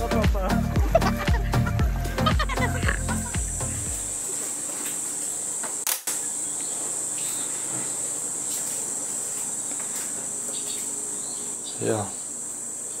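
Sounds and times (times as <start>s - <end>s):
insect chorus droning: 0.4s - 13.0s.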